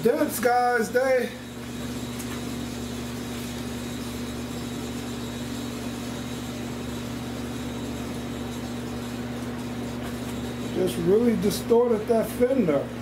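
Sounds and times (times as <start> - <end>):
motor hum with high whine: 0.0 - 13.0.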